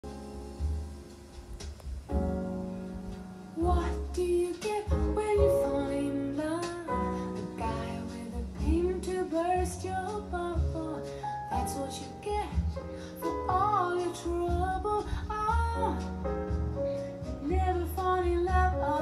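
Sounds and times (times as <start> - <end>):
woman singing with music: 3.4 - 19.0.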